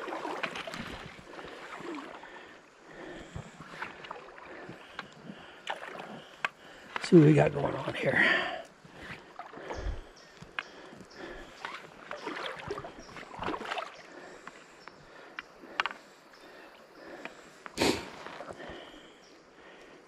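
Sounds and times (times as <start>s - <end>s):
small water splashes: 0.0s - 8.0s, 8.6s - 17.3s
creek water sloshing and splashing: 0.0s - 19.7s.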